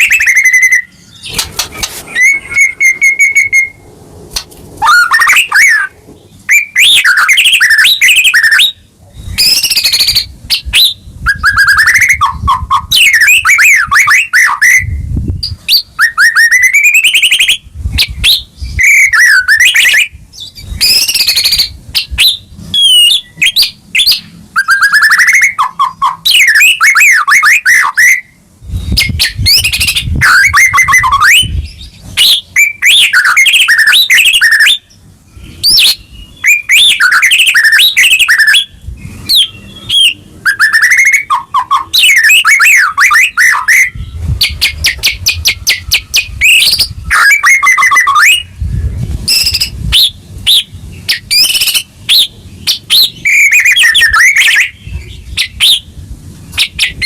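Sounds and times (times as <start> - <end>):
bird singing whistles and trills: 0.0 - 3.8, 4.8 - 57.0.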